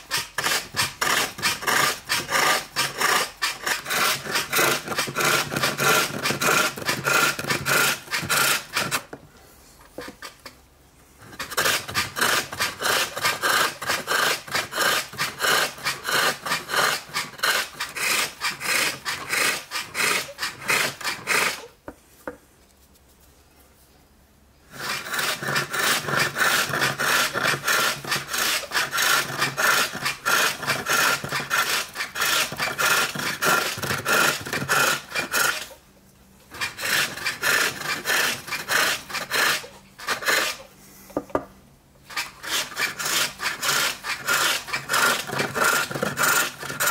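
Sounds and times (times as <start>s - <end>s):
hook tool shaving wood: 0.0s - 9.1s, 11.3s - 21.7s, 24.7s - 35.7s, 36.6s - 40.6s, 42.1s - 46.9s.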